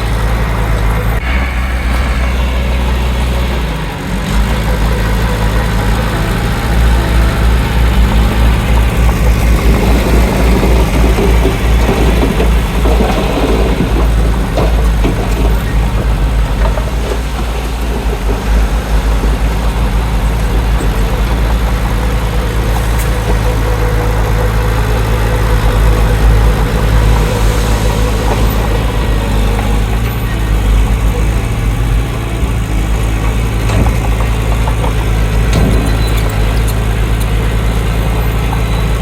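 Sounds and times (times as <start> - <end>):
diesel engine running steadily: 0.0 - 39.0.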